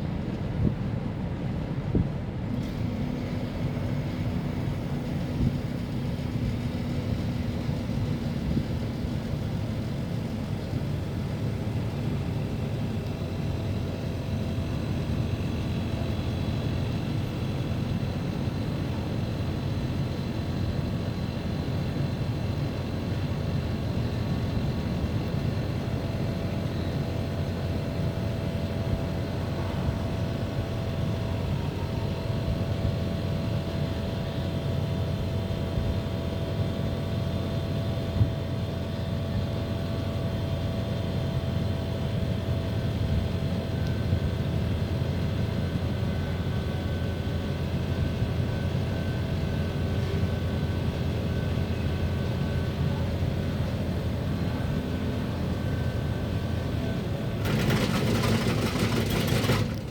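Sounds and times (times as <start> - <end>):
air conditioner rumble and hum: 0.0 - 59.9.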